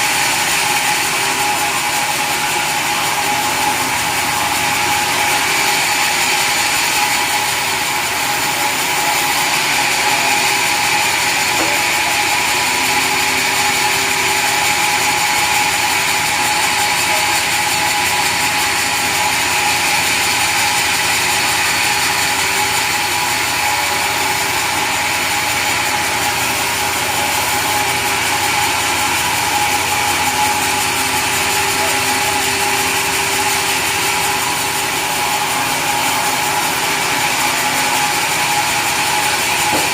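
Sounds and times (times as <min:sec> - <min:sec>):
saw running with high whine: 0:00.0 - 0:39.9.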